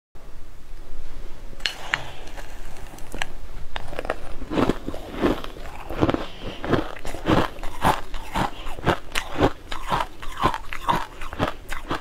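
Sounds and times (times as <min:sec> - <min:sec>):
spoon scooping crushed ice: 0:01.6 - 0:12.0.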